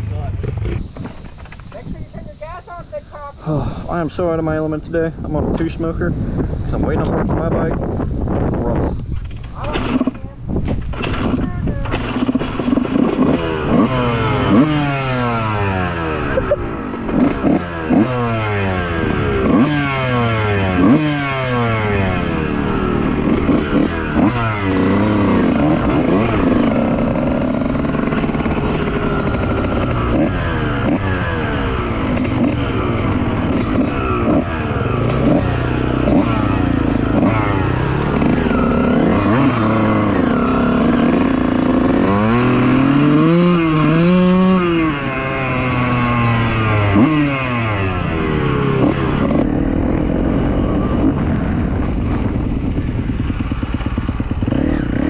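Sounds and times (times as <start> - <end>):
dirt bike engine revving: 0.0 - 8.6, 9.6 - 55.0.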